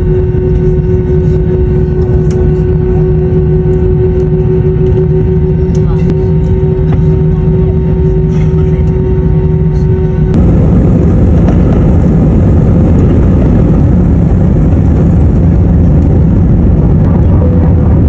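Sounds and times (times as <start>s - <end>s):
airliner engines humming: 0.0s - 18.0s
jet engine rushing roar: 0.0s - 18.0s.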